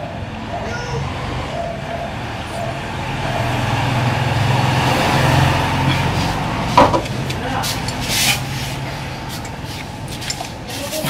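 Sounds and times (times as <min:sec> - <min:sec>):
vehicle engine passing by: 0:00.0 - 0:10.4.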